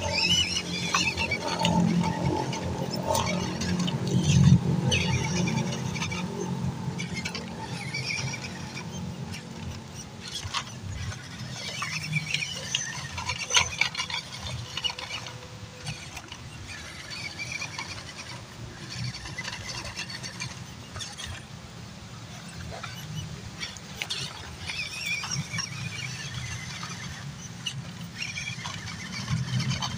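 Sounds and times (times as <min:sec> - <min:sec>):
high-pitched motor and gear whine: 0:00.0 - 0:29.9.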